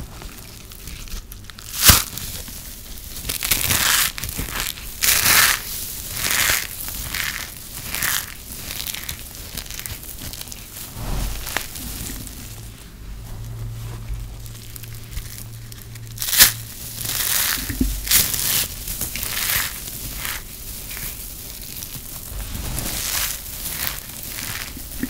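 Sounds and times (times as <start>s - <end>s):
dry soap crunching: 0.0s - 25.0s
soap crumbs rustling: 0.0s - 25.0s.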